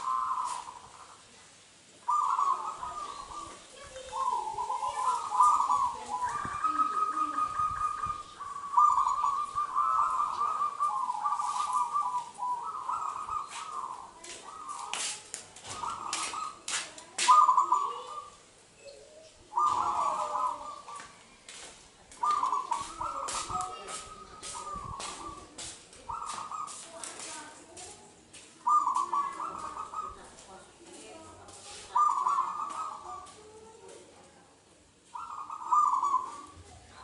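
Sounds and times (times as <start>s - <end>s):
dove trilled cooing: 0.0s - 1.2s, 2.0s - 21.4s, 22.1s - 27.1s, 28.6s - 30.4s, 31.1s - 33.9s, 35.1s - 37.0s.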